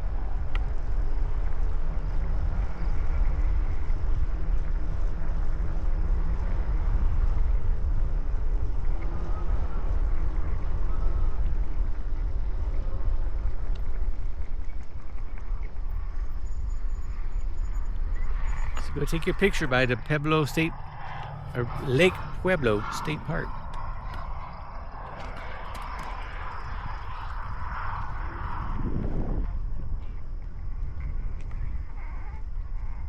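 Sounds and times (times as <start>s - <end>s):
faint wavering hum: 0.0s - 33.0s
wind rumble on microphone: 0.0s - 33.0s.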